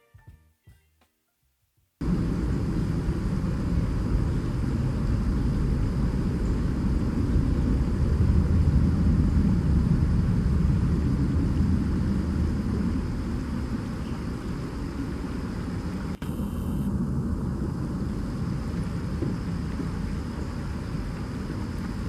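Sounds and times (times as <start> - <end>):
low engine rumble: 2.0 - 22.0.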